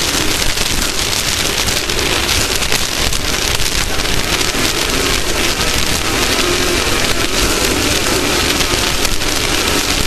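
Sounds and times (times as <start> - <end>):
faint engine: 0.0 - 10.0
wind and dirt rushing: 0.0 - 10.0.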